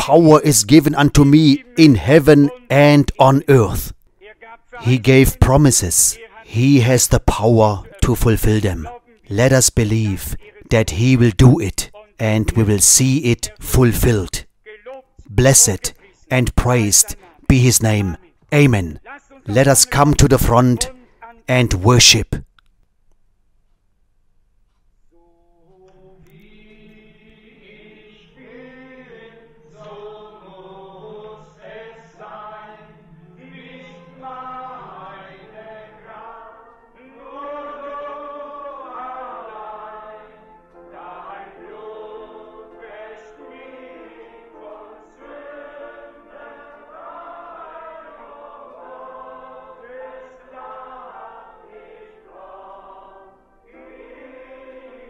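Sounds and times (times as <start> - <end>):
congregation singing a hymn: 0.0 - 22.2, 25.2 - 55.0.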